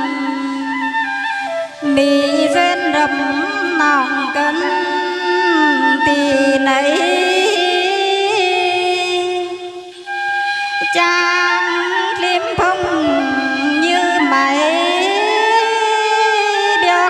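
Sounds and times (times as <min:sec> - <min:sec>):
woman singing through a pa: 0:00.0 - 0:00.7, 0:01.8 - 0:09.9, 0:10.8 - 0:17.0.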